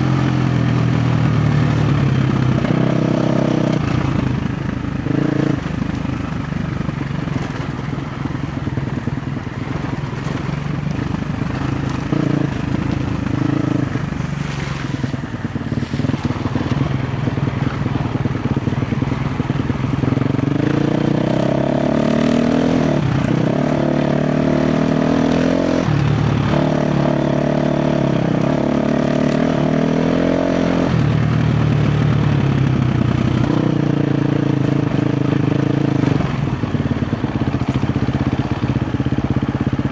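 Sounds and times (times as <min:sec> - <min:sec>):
dirt bike engine revving: 0:00.0 - 0:06.4, 0:09.6 - 0:36.7.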